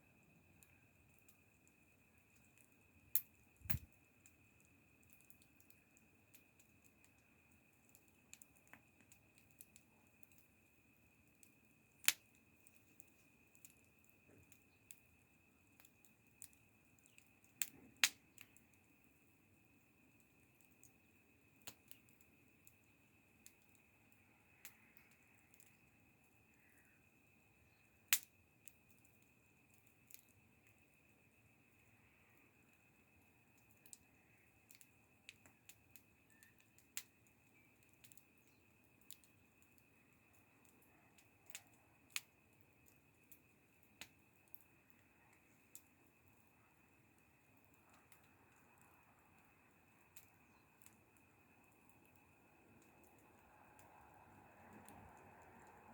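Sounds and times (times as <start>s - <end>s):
faint steady high whine: 0.0s - 55.9s
wood fire crackling: 0.0s - 55.9s.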